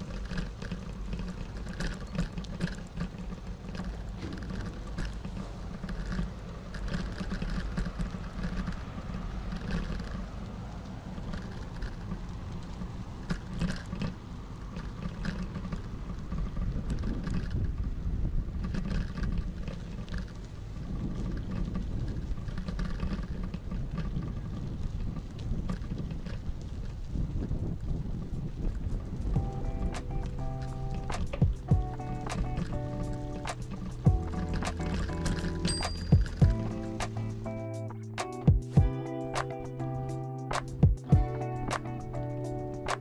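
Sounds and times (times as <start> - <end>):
light clicks and ticks: 0.0 - 17.9, 18.5 - 43.0
wind buffeting microphone: 0.0 - 43.0.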